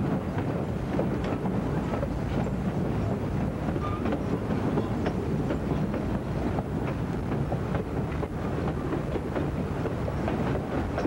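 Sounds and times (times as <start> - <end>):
train rumbling along track: 0.0 - 11.0
wheels clicking and knocking: 0.0 - 11.0.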